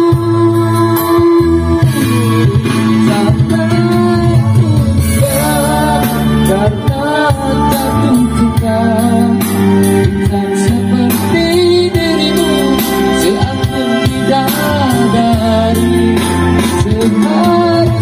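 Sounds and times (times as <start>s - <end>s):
pop song through loudspeaker: 0.0s - 18.0s.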